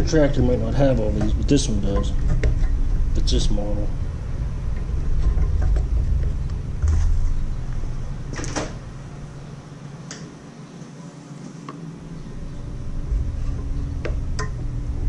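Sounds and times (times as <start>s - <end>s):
low rumble: 0.0s - 10.0s, 12.0s - 15.0s.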